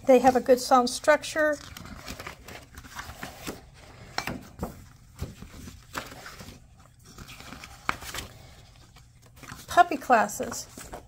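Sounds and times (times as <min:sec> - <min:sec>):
paper pages rustling: 0:00.1 - 0:11.0.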